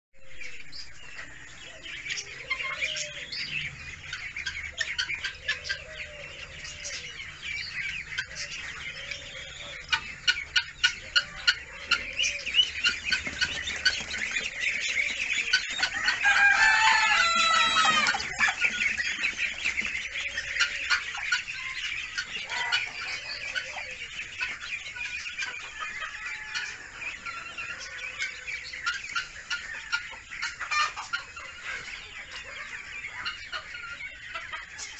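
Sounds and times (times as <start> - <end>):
ducklings peeping: 0.2 - 34.9.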